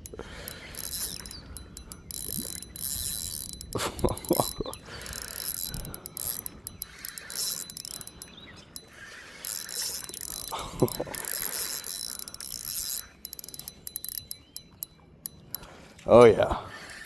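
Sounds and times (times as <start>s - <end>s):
fishing reel whirring and ratcheting: 0.0s - 17.0s.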